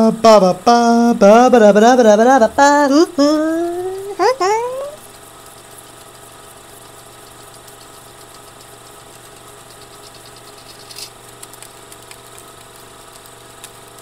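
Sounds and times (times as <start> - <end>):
small machine rattling hum: 0.0 - 14.0.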